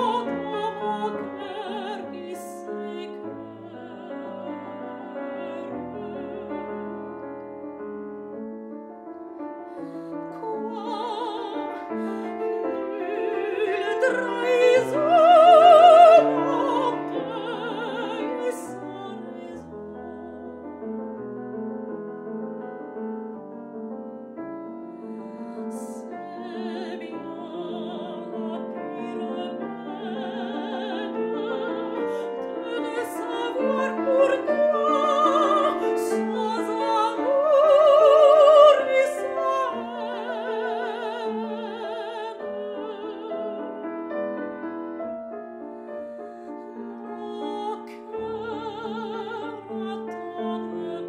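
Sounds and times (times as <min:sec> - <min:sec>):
grand piano accompaniment: 0:00.0 - 0:51.0
soprano singing: 0:00.0 - 0:51.0.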